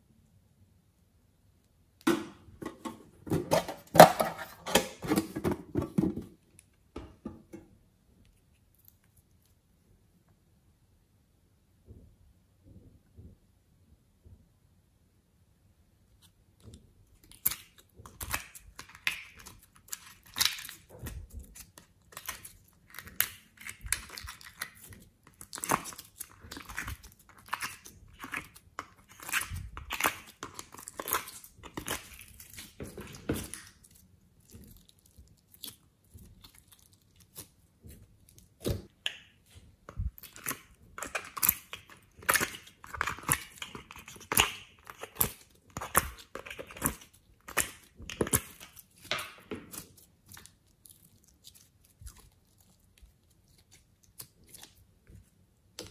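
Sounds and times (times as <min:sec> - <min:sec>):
clay squishing: 0:00.0 - 0:10.6, 0:15.4 - 0:55.9.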